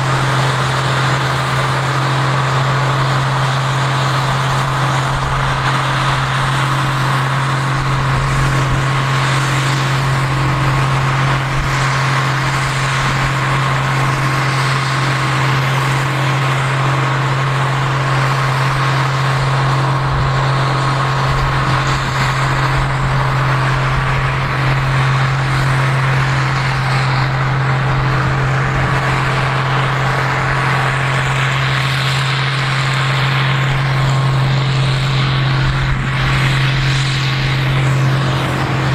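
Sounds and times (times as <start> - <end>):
combine harvester engine drone: 0.0 - 38.9
steady machine whine: 0.0 - 38.9.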